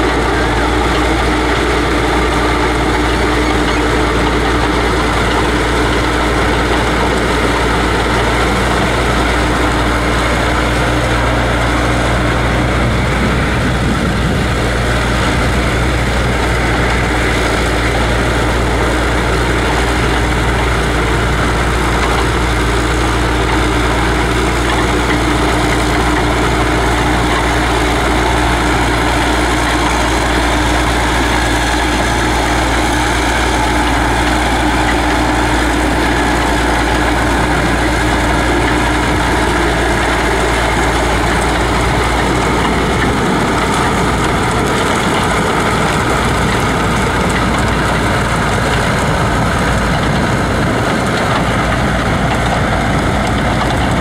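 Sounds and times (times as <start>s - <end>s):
diesel tractor engine rumbling: 0.0s - 54.0s.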